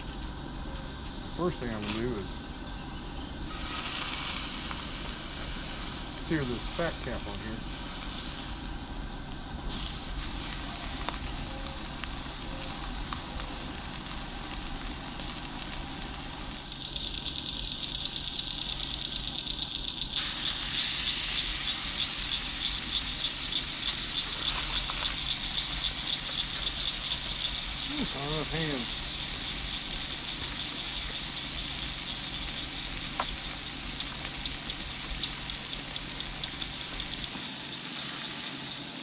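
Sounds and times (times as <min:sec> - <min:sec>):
steak sizzling in a skillet: 0:03.5 - 0:39.0.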